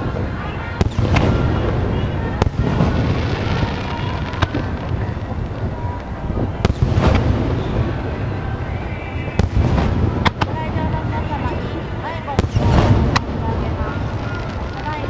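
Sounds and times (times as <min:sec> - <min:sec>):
fireworks booming: 0:00.0 - 0:15.0
sharp firework cracks: 0:00.0 - 0:15.0.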